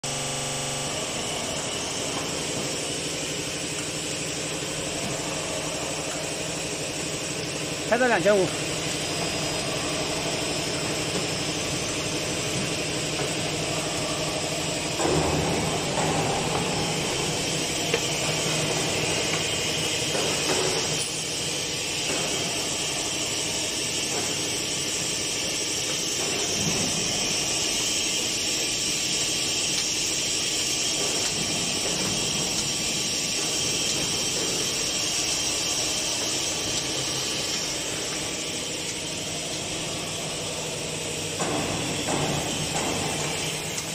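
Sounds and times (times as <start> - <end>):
machine humming and rattling: 0.0 - 43.9.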